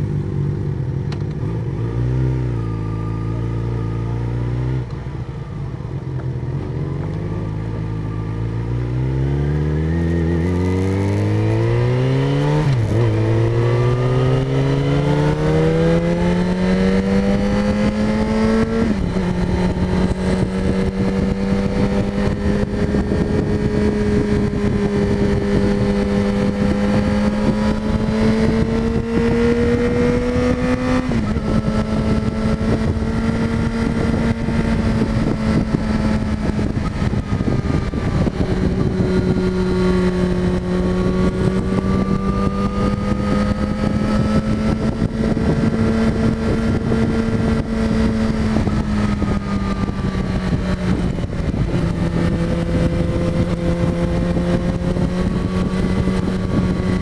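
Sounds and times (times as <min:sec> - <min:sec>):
motorcycle engine revving: 0:00.0 - 0:05.3, 0:06.2 - 0:57.0
wind noise: 0:01.3 - 0:57.0.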